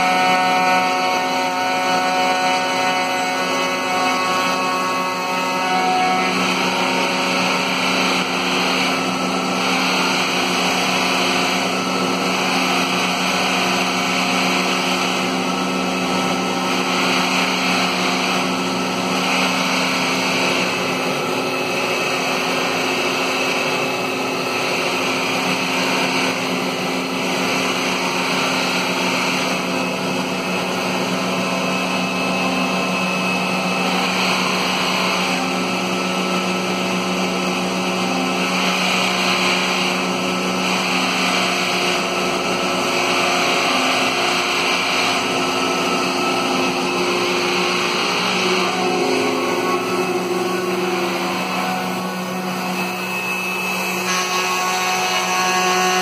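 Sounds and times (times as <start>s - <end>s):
constant motor hum: 0.0s - 56.0s
router bit cutting plywood: 0.0s - 56.0s.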